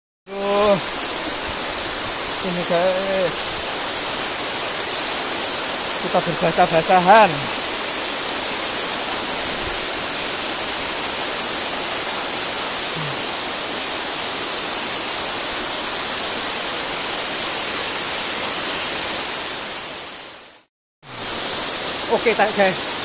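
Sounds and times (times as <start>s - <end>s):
small waterfall rushing: 0.3s - 23.0s.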